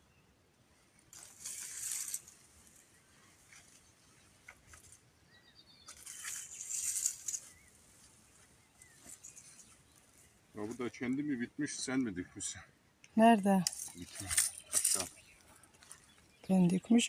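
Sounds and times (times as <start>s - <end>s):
dry brushwood rustling: 0.8s - 11.2s, 13.6s - 17.0s.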